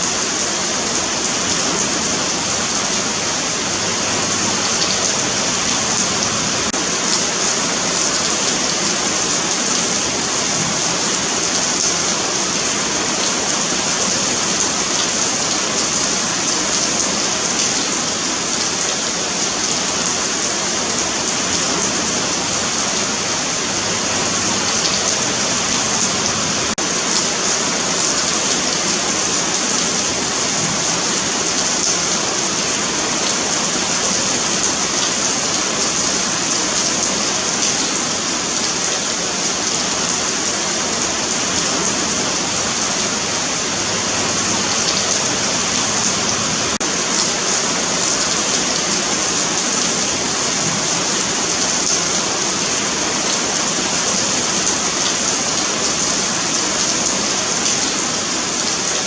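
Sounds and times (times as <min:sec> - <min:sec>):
rain on concrete sidewalk: 0:00.0 - 0:59.0.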